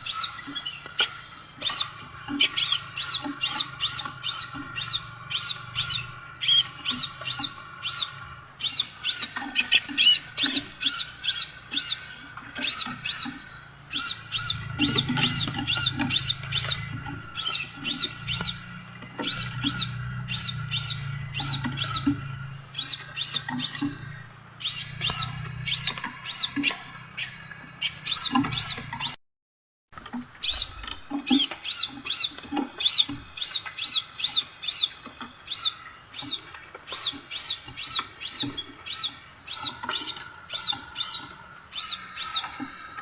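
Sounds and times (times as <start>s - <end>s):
songbird chirping: 0.0s - 29.2s, 30.0s - 43.0s.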